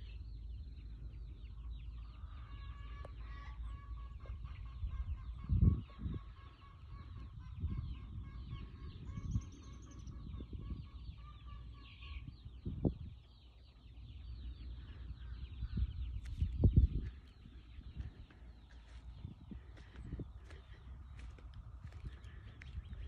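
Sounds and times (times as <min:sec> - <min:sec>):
low rumbles on microphone: 0:04.1 - 0:23.0.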